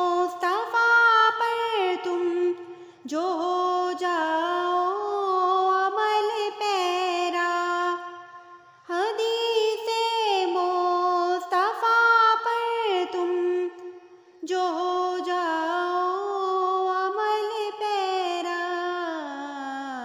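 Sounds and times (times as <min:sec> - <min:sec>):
person singing unaccompanied: 0:00.0 - 0:08.3, 0:08.9 - 0:20.0.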